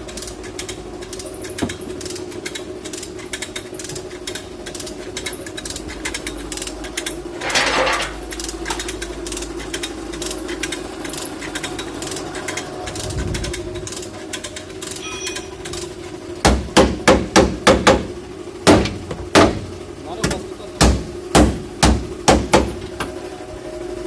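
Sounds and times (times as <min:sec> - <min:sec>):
mechanical clattering: 0:00.0 - 0:24.0
motor hum: 0:00.0 - 0:24.0.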